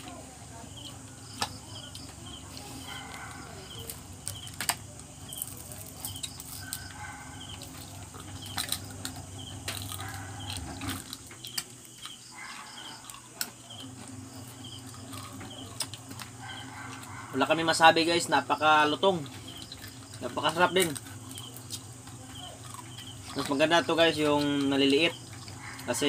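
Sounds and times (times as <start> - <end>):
insect chirping: 0.0 - 26.0
crab shells crunching and cracking: 1.2 - 26.0.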